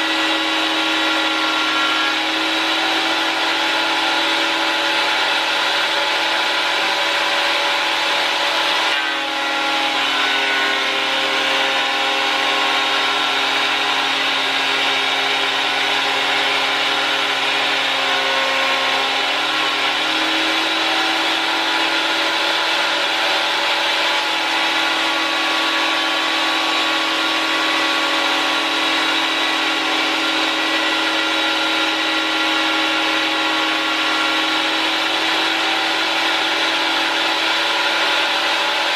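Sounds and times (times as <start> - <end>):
planer whining: 0.0 - 38.9.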